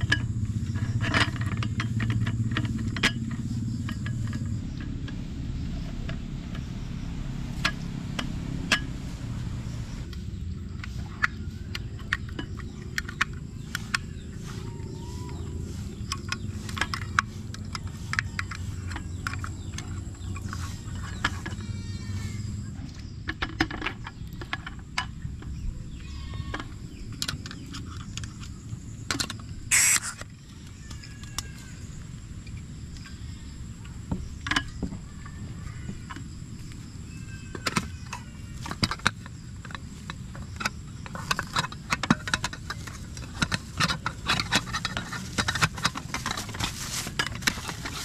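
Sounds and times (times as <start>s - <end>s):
high insect drone: 0.0s - 23.3s, 24.9s - 48.0s
insects chirping: 0.0s - 48.0s.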